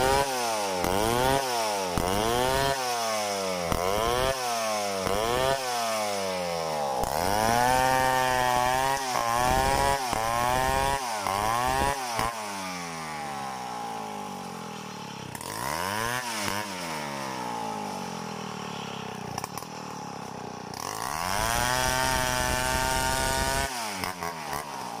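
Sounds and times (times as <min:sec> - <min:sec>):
chainsaw engine revving: 0:00.0 - 0:25.0.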